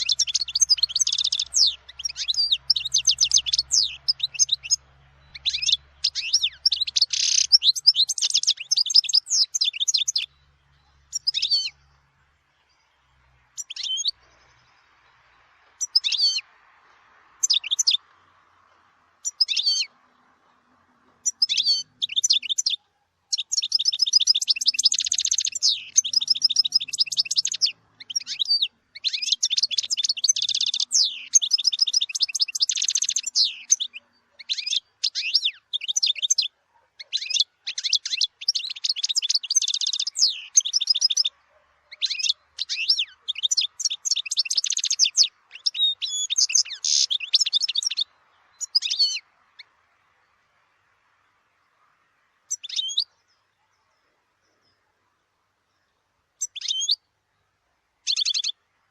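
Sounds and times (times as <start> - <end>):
goldfinch twittering song: 0.0 - 58.9.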